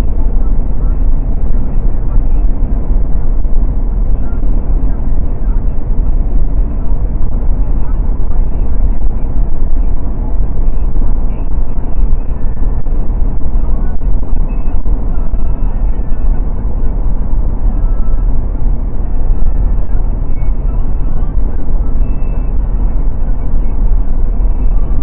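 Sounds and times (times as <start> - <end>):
car road and wind noise: 0.0 - 25.0.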